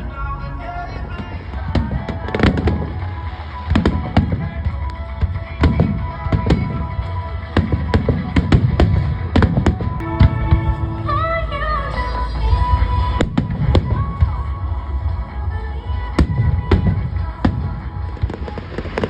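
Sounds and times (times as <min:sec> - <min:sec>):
music: 0:00.0 - 0:19.0.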